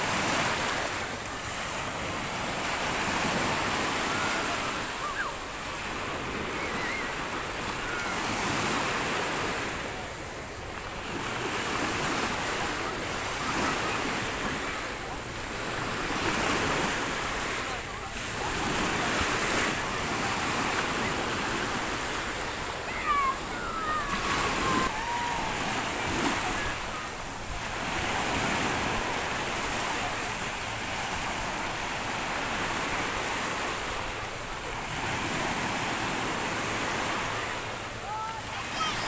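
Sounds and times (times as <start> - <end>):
sea waves washing on shore: 0.0 - 39.0.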